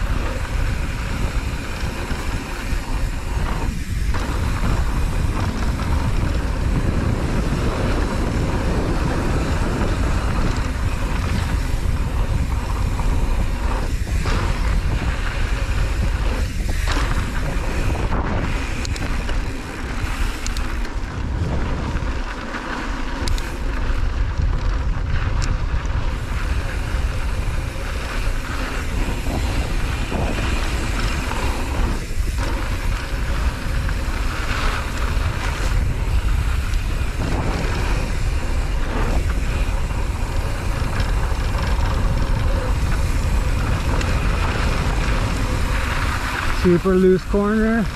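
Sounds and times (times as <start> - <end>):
bike clicks and rattles: 0.0 - 47.9
tyres rolling over loose dirt: 0.0 - 47.9
wind buffeting microphone: 0.0 - 47.9.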